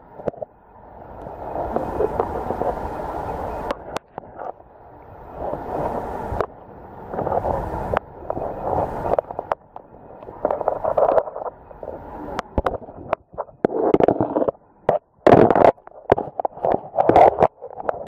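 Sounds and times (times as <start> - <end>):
muffled underwater stream rushing: 0.0 - 18.0.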